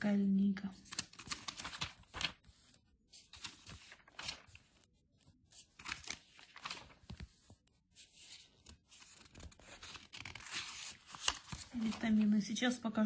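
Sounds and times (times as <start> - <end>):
paper pages rustling: 0.8 - 12.7.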